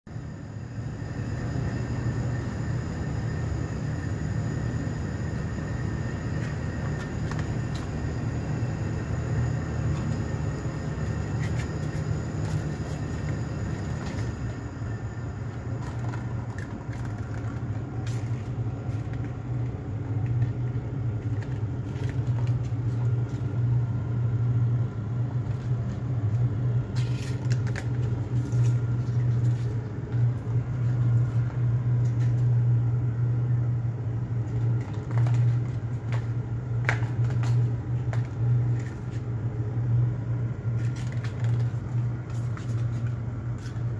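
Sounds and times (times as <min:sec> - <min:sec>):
steady low rumble: 0:00.1 - 0:43.9.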